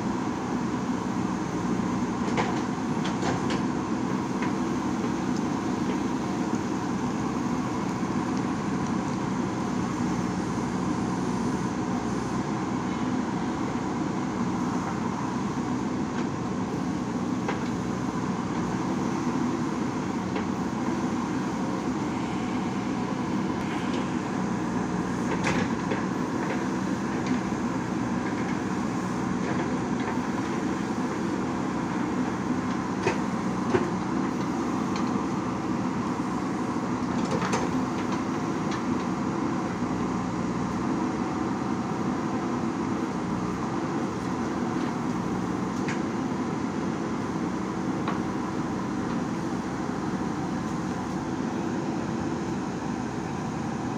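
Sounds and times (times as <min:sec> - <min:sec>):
backhoe diesel engine running: 0:00.0 - 0:53.9.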